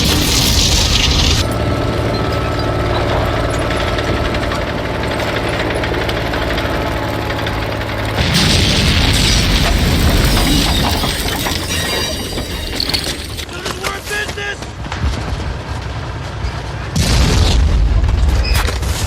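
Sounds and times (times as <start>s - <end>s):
heavy engine rumbling: 0.0s - 19.0s.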